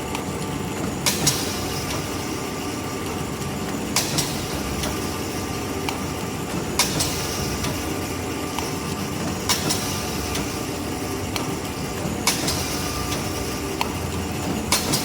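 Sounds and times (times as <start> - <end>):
sharp machine clacks: 0.0 - 15.0.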